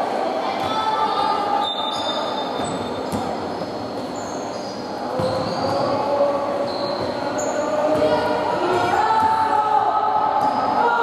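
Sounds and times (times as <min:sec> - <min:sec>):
murmur of the hall: 0:00.0 - 0:11.0.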